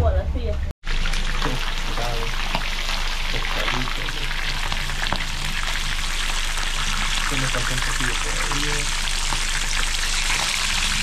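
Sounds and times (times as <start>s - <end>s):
fish frying in hot oil: 0.8s - 11.0s.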